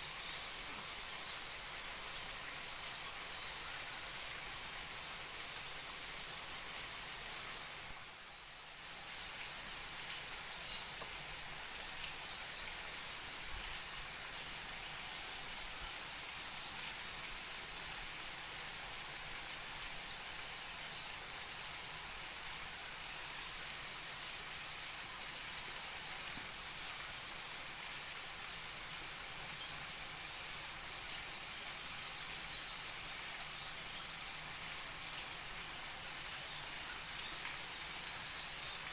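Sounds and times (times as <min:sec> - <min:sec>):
insects droning shrilly: 0:00.0 - 0:38.9.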